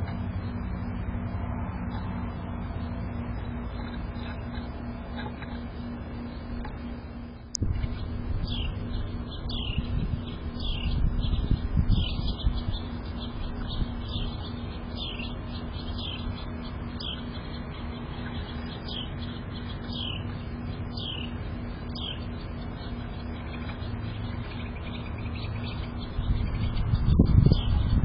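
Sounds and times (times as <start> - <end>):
low rumbling noise: 0.0 - 28.0.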